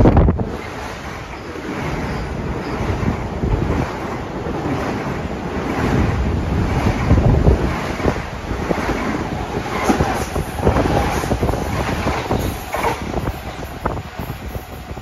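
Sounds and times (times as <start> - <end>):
train rumble: 0.0 - 15.0
wind on microphone: 0.0 - 15.0.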